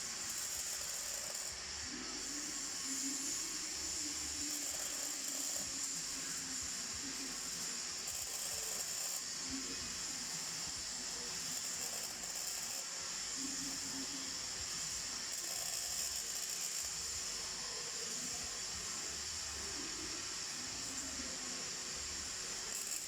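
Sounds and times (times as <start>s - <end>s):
welding arc hissing: 0.0s - 23.0s.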